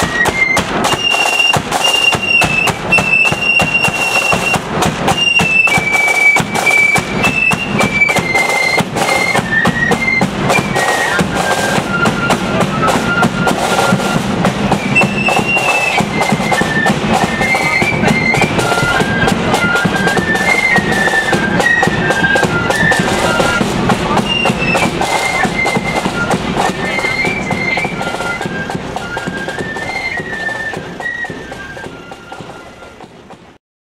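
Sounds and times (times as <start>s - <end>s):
flutes playing melody: 0.0s - 33.6s
snare and bass drumming: 0.0s - 33.6s.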